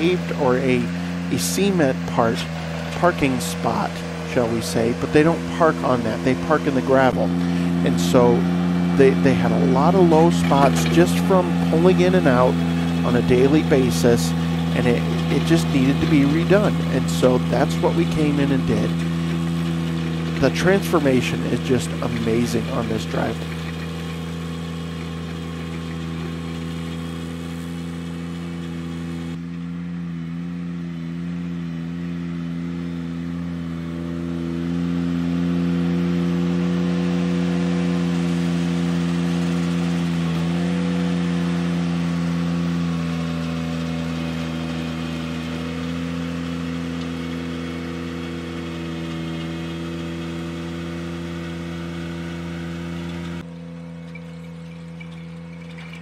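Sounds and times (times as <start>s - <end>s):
power rake churning gravel: 0.0s - 56.0s
tractor engine running: 0.0s - 56.0s.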